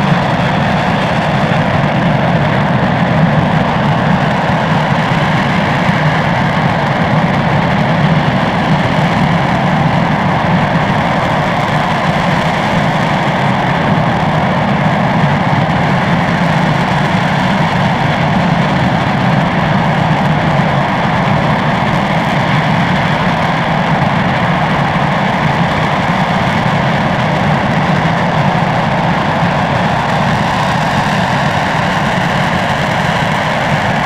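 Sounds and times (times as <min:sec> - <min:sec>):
rocket engine firing: 0:00.0 - 0:34.0.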